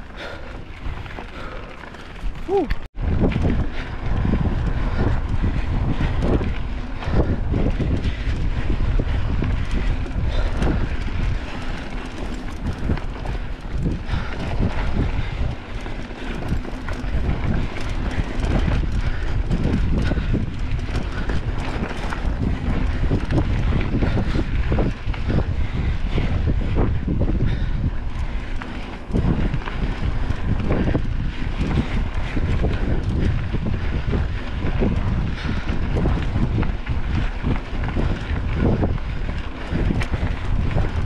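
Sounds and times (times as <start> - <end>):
bicycle knocks and rattles: 0.0 - 41.0
wind rushing over microphone: 0.0 - 41.0.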